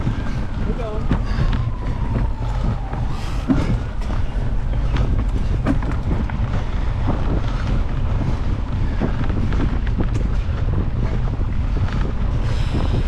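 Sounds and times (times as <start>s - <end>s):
bike clicks and rattles: 0.0s - 13.0s
wind buffeting microphone: 0.0s - 13.0s.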